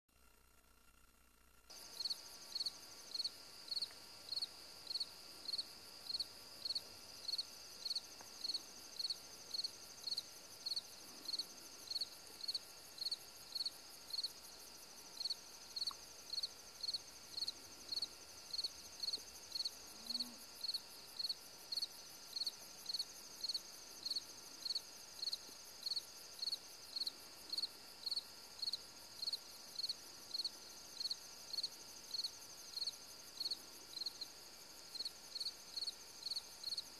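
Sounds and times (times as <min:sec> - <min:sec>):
insect chirping: 0:00.2 - 0:36.9
insects trilling: 0:01.7 - 0:36.9.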